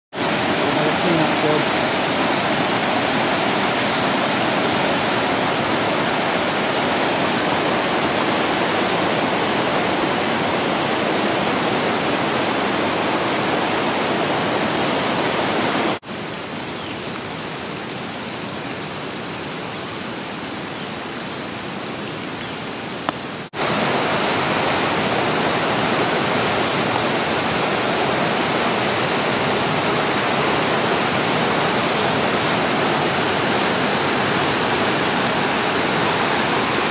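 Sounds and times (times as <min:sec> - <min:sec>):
water running over stone ledges: 0:00.1 - 0:13.8, 0:16.0 - 0:36.9
flooded creek roaring: 0:00.1 - 0:36.9.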